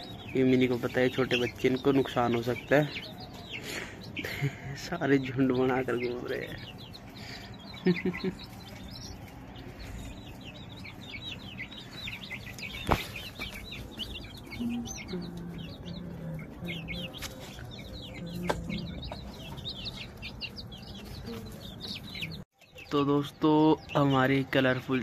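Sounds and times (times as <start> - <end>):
chicken clucking: 0.0 - 22.4
chicks peeping: 0.0 - 25.0.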